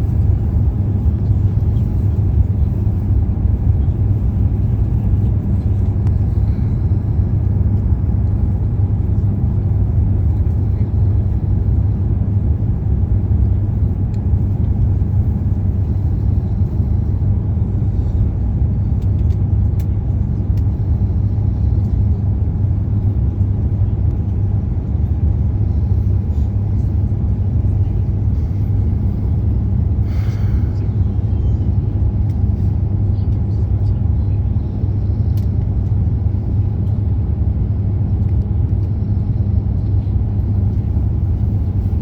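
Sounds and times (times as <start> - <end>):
low rumble of moving vehicle: 0.0 - 42.0.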